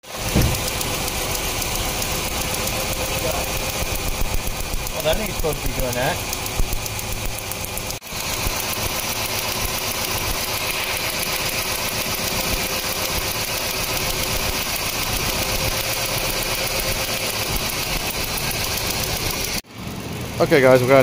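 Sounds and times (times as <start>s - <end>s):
fast even ticking: 0.0s - 19.6s
car engine idling: 0.0s - 21.0s.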